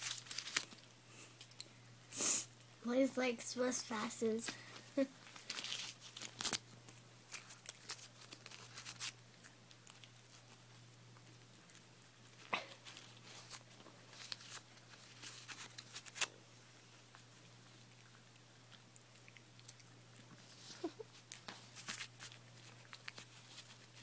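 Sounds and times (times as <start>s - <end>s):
dog chewing paper: 0.0s - 1.5s, 4.9s - 24.0s.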